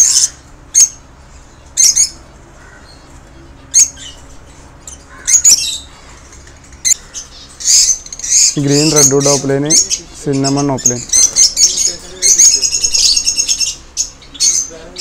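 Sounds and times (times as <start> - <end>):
lovebirds squawking: 0.0 - 15.0.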